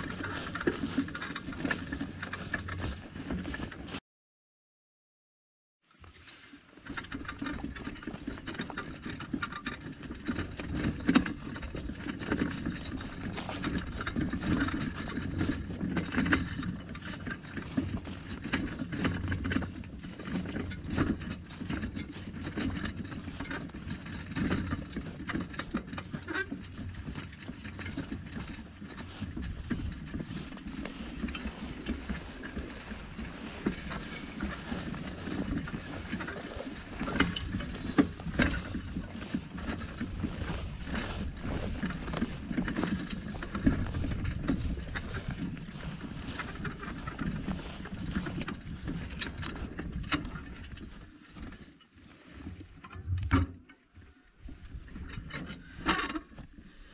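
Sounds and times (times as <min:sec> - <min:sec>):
rattles and knocks from bumps: 0:00.0 - 0:04.0, 0:06.8 - 0:51.8, 0:54.4 - 0:56.5
vehicle rumbling on dirt track: 0:00.0 - 0:04.0, 0:06.0 - 0:56.9.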